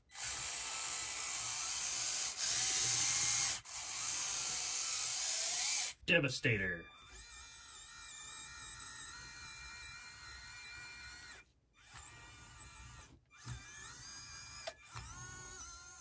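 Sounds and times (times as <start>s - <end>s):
electric motor and gears whining: 0.0s - 6.0s, 6.9s - 16.0s.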